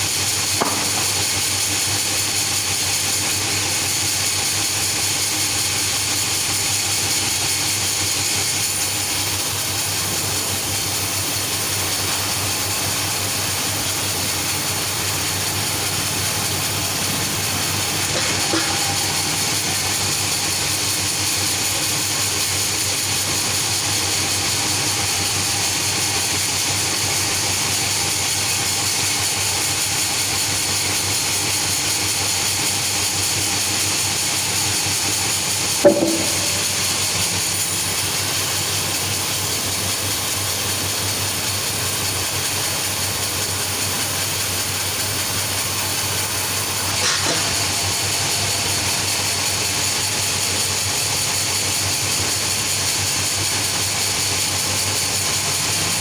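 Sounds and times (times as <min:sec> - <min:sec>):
sawmill machinery hissing and humming: 0:00.0 - 0:56.0.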